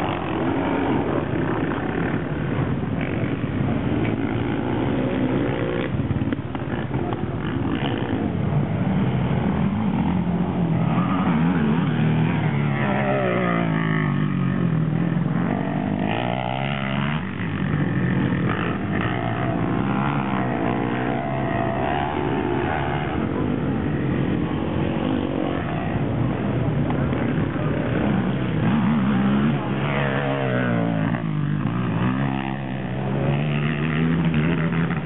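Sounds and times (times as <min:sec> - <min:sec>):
quad engines revving: 0:00.0 - 0:35.0.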